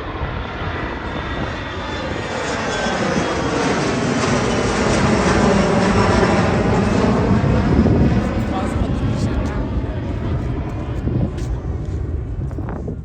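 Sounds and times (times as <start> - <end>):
airliner engines passing by: 0.0 - 13.0.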